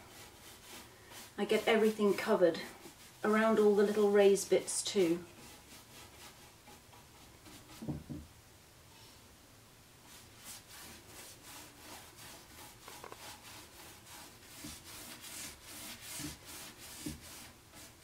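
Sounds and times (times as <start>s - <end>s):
brush scrubbing paint on wood: 0.0s - 8.1s, 10.0s - 18.0s.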